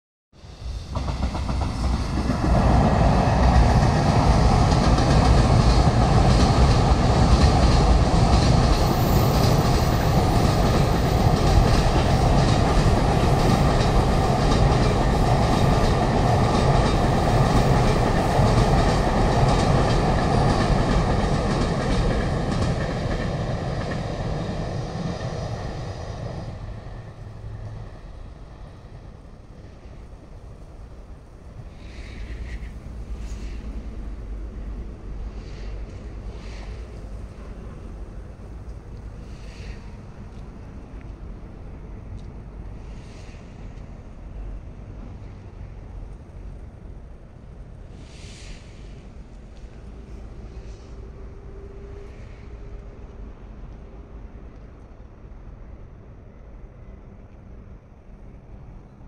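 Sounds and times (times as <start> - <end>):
freight train passing: 0.4 - 59.0.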